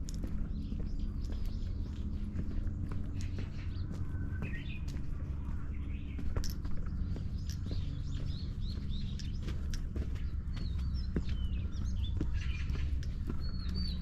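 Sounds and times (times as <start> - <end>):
footsteps on a path: 0.0 - 14.0
small birds chirping: 0.0 - 14.0
steady low rumble: 0.0 - 14.0.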